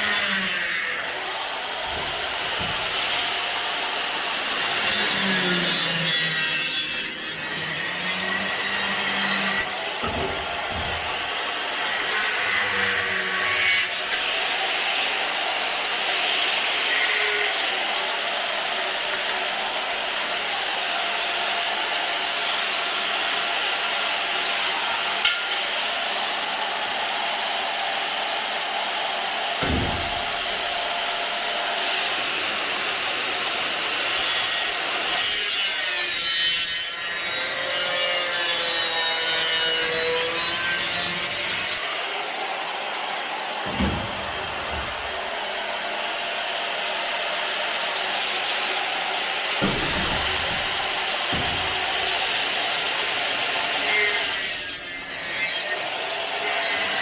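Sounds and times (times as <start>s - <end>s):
power tool cutting sheet steel: 0.0s - 57.0s.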